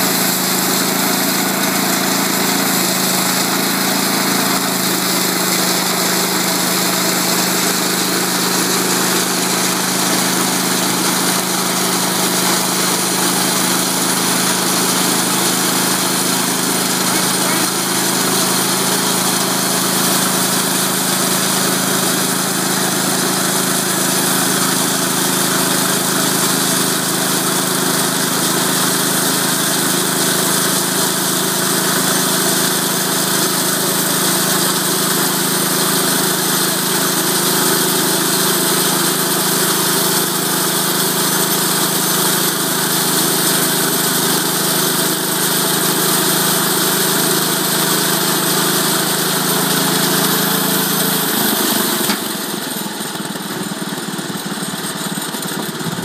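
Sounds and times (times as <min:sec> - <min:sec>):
band blade sawing log: 0:00.0 - 0:53.1
sawmill engine running: 0:00.0 - 0:56.0.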